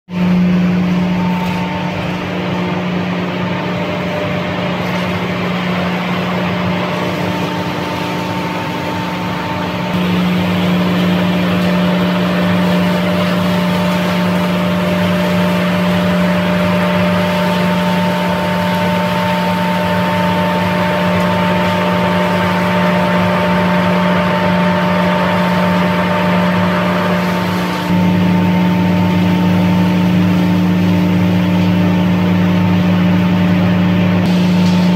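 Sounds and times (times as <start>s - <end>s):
hammer mill drone: 0.1s - 34.9s.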